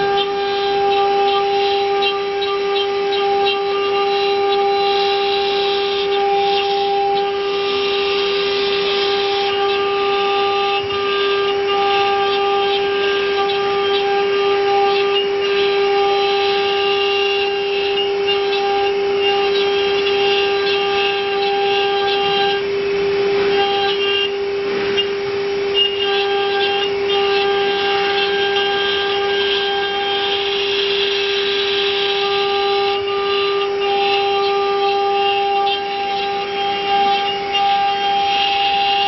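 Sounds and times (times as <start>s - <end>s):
router spindle whining: 0.0s - 39.0s.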